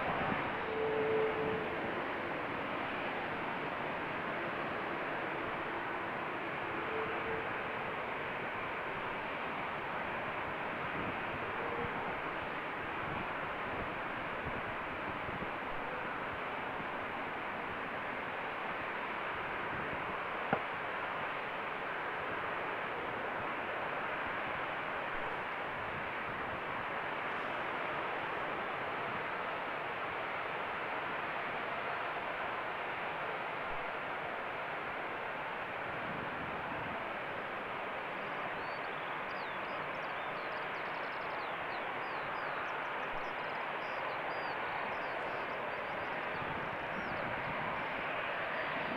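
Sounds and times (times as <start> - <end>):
jet engines at takeoff power: 0.0 - 48.9.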